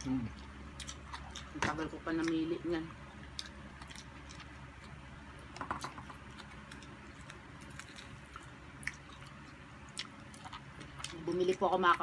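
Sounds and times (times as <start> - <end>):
chewing and wet mouth clicks: 0.3 - 1.6, 3.2 - 12.0.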